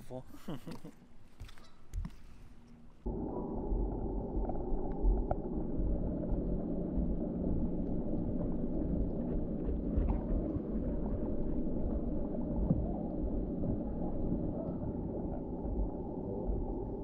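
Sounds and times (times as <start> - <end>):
underwater rumble and gurgle: 3.0 - 17.0.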